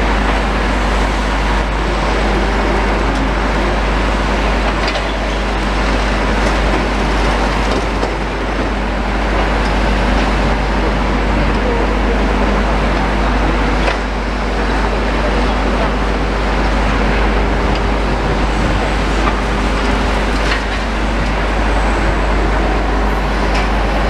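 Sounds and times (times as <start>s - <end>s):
engine rumbling: 0.0s - 24.0s.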